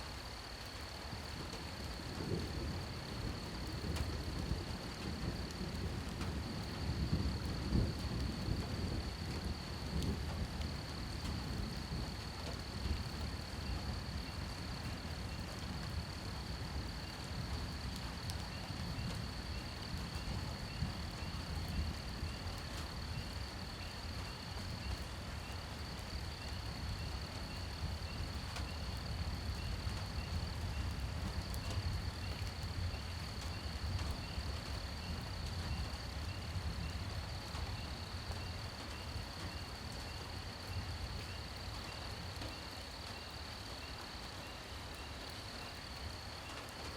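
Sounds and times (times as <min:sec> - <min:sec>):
faint insect chirps: 0:00.0 - 0:46.9
light rain hiss: 0:00.0 - 0:46.9.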